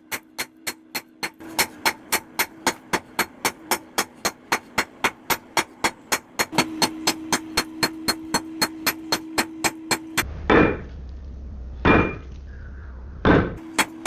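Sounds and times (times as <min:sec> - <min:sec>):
fast hammer strikes on metal: 0:00.0 - 0:10.8, 0:13.3 - 0:14.0
steady low hum: 0:00.0 - 0:14.0.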